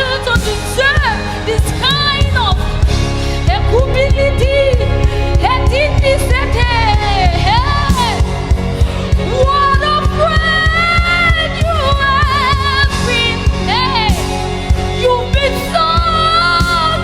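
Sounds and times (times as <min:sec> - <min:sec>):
steady drum beat: 0:00.0 - 0:17.0
sustained keyboard chords: 0:00.0 - 0:17.0.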